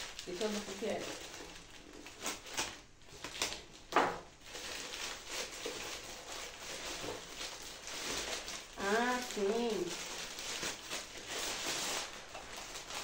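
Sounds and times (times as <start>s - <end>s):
plastic bag rustling and crinkling: 0.0s - 13.0s.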